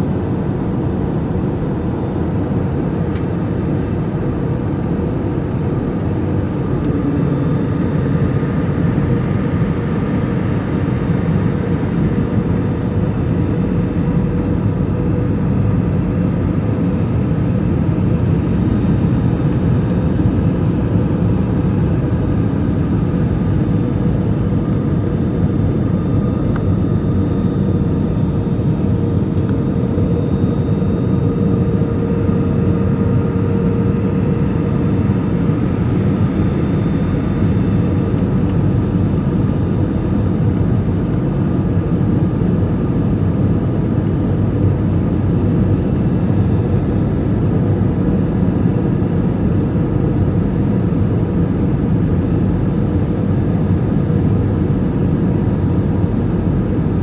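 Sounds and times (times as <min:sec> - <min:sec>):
faint steady hum: 0:00.0 - 0:57.0
jet airliner cabin roar: 0:00.0 - 0:57.0.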